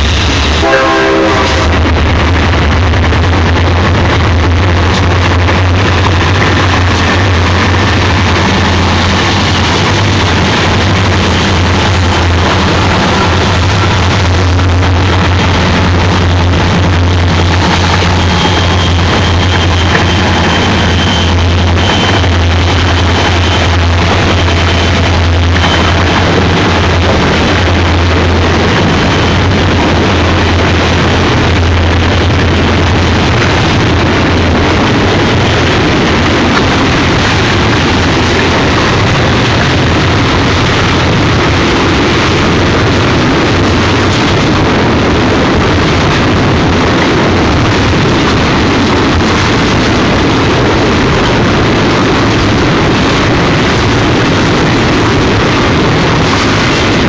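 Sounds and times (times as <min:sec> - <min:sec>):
diesel locomotive drone: 0:00.0 - 0:57.0
train wheels rumbling on rail: 0:00.0 - 0:57.0.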